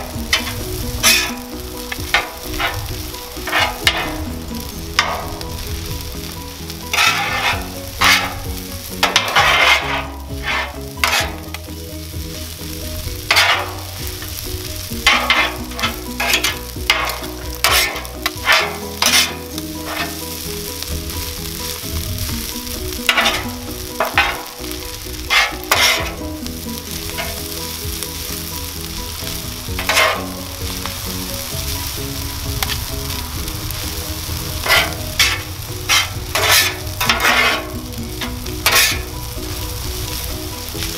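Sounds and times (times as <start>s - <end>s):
metal spatulas scraping griddle: 0.0s - 11.7s, 13.0s - 28.4s, 29.2s - 32.0s, 34.2s - 40.9s
food sizzling on griddle: 0.0s - 40.9s.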